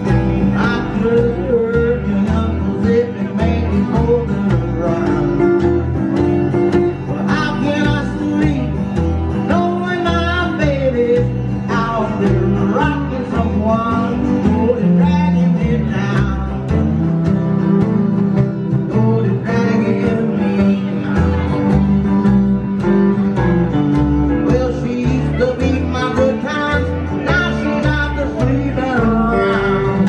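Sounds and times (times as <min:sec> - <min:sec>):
man singing: 0:00.0 - 0:22.3, 0:23.9 - 0:30.0
strummed acoustic guitar: 0:00.0 - 0:30.0
upright bass: 0:00.0 - 0:30.0.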